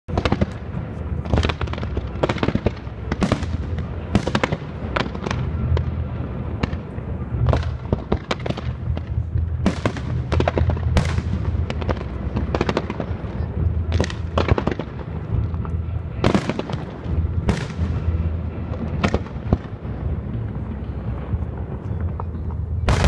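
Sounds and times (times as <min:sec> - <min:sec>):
fireworks bangs: 0:00.1 - 0:23.0
low rumble: 0:00.1 - 0:23.0.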